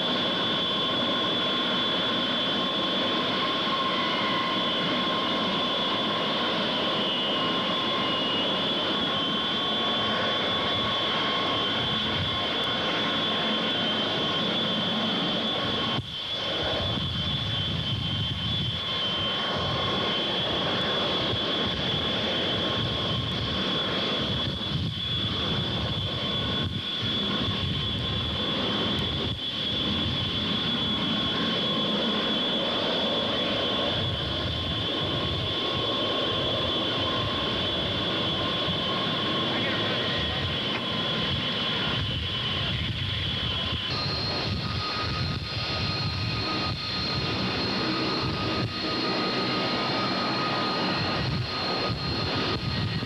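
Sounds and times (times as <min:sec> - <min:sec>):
jet engines roaring with whine: 0:00.0 - 0:53.0.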